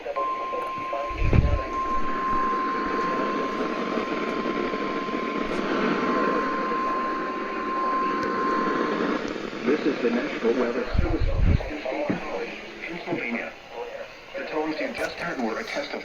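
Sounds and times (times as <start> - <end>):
radio static hiss: 0.0 - 16.0
steady high alarm tone: 0.0 - 16.0.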